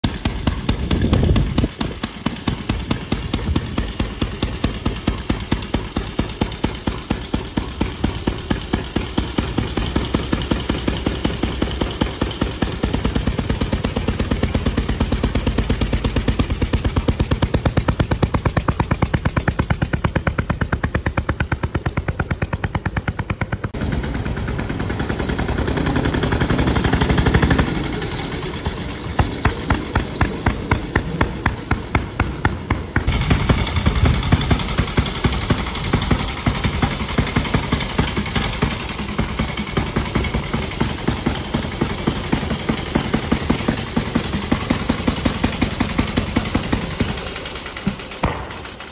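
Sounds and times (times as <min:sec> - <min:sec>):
motorcycle engine exhaust beat: 0:00.0 - 0:48.9.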